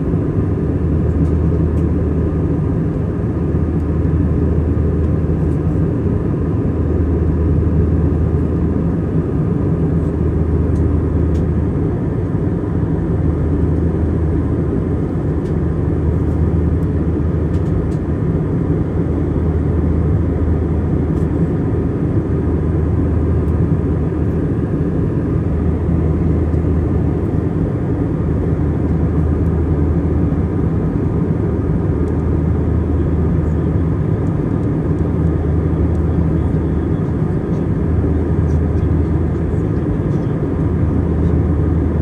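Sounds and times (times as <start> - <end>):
jet engine cabin drone: 0.0 - 42.0
low engine hum: 0.0 - 42.0.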